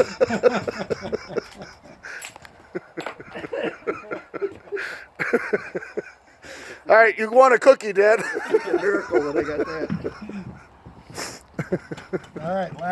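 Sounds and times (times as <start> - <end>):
people laughing: 0.0 - 6.4, 8.0 - 12.9.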